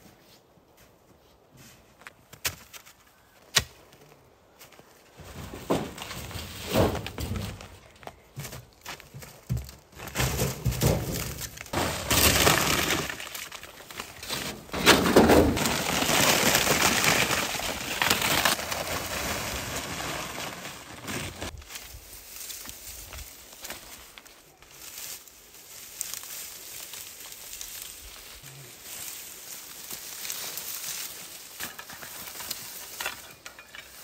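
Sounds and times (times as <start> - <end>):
dry branches crunching: 2.5 - 34.0.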